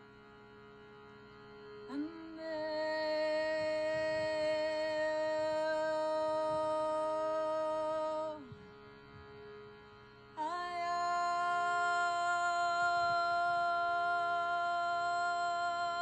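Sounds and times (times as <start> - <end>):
sustained drone tone: 1.8 - 9.2, 10.3 - 16.0.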